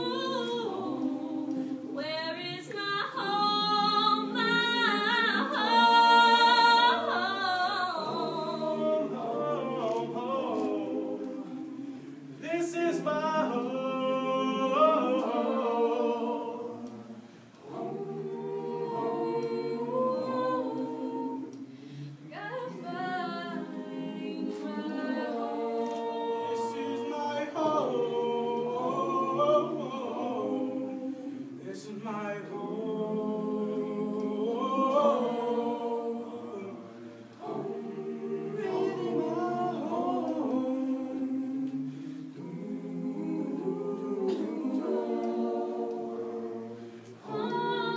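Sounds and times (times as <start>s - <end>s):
youth choir singing a cappella: 0.0s - 47.9s.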